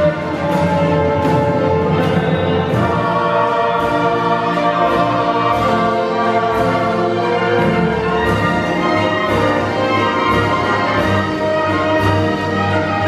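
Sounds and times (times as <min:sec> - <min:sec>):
orchestra sustained string chords: 0:00.0 - 0:13.0.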